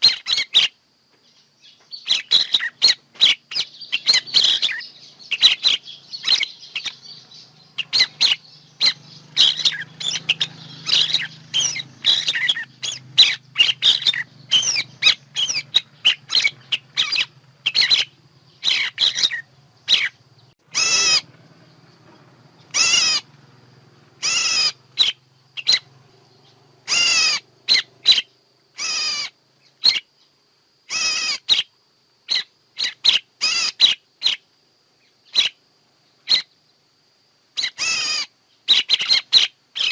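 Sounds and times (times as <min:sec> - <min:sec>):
harsh bird calls: 0:00.0 - 0:36.7, 0:37.5 - 0:39.9.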